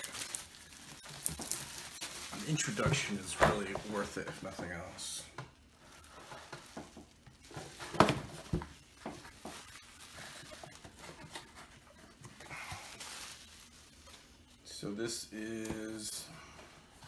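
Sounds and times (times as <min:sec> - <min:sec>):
soft handling rustles: 0:00.0 - 0:17.0.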